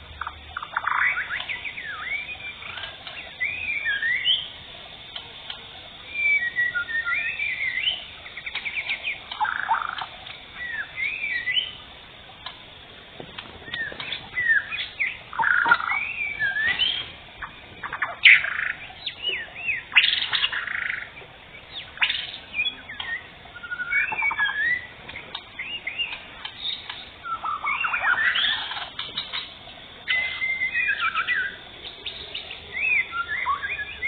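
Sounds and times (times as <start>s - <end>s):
bird singing whistled phrases: 0.6s - 4.5s, 6.0s - 11.8s, 13.6s - 34.0s.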